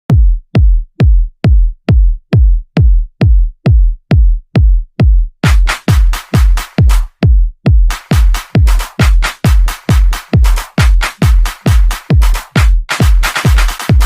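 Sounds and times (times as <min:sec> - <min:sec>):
drum-machine kick with bass thump: 0:00.1 - 0:14.0.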